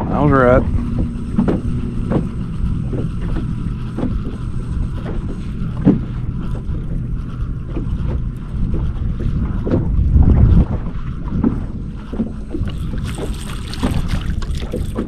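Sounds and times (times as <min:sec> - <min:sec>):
wind rumbling on microphone: 0:00.0 - 0:15.0
light knocks against boat: 0:00.8 - 0:07.0, 0:07.6 - 0:15.0.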